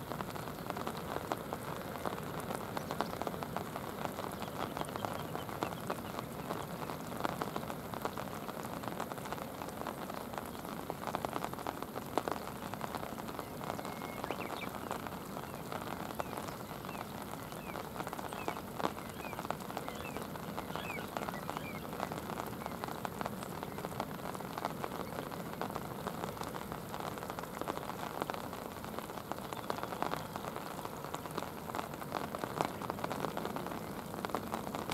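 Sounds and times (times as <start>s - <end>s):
rain falling on river: 0.0s - 34.9s.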